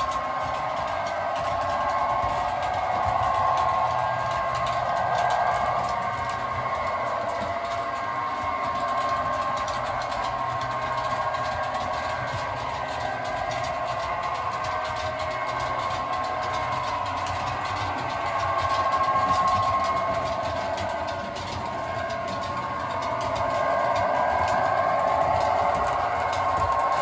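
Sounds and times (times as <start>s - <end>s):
model train whine and hum: 0.0s - 27.0s.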